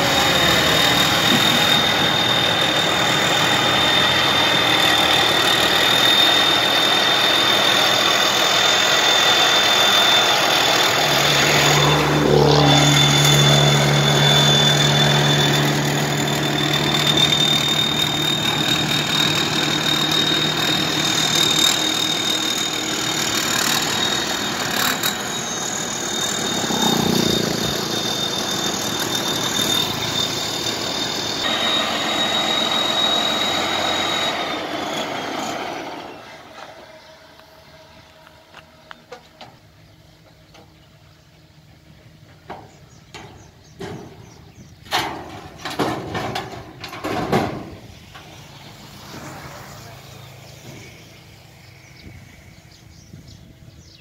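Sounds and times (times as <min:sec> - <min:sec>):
deeper drone: 0:00.0 - 0:42.6, 0:45.6 - 0:54.0
steady high whine: 0:00.0 - 0:43.4, 0:44.8 - 0:54.0
harvester engine running: 0:00.0 - 0:54.0.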